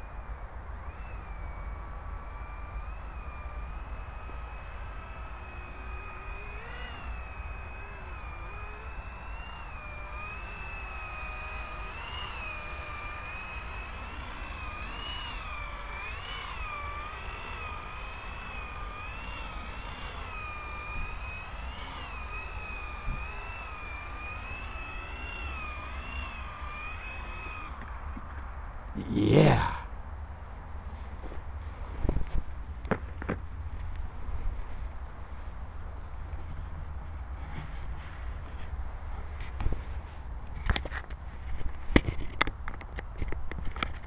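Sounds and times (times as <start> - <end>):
rc helicopter rotors whining: 0.0 - 30.0, 30.8 - 44.0.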